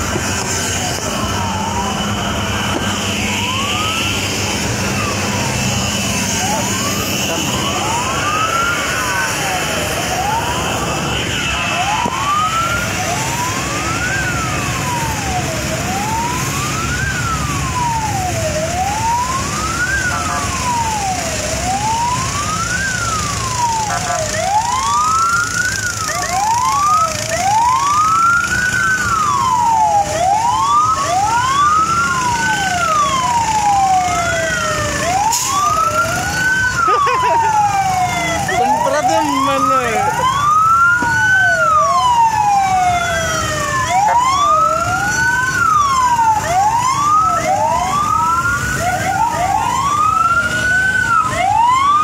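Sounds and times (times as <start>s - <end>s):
fire engine sirens wailing: 0.0s - 52.0s.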